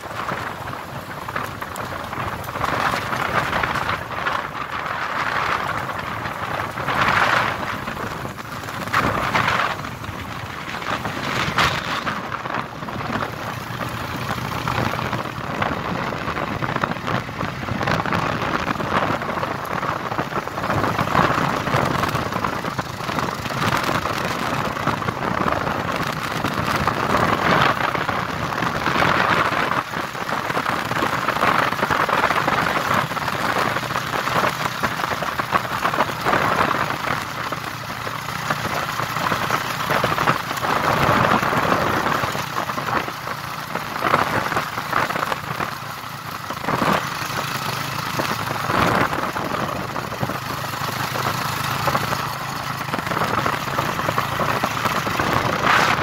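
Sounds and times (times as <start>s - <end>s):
motorcycle engine: 0.0s - 56.0s
road noise: 0.0s - 56.0s
wind rushing over microphone: 0.0s - 56.0s.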